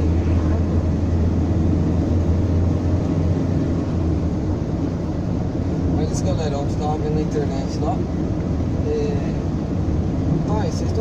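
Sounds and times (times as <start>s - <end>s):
van engine and road drone: 0.0s - 11.0s.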